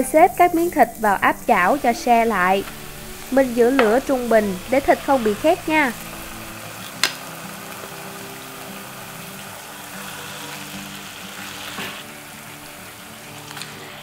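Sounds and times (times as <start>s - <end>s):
meat sizzling in hot oil: 0.0s - 14.0s
soft background music: 0.0s - 14.0s.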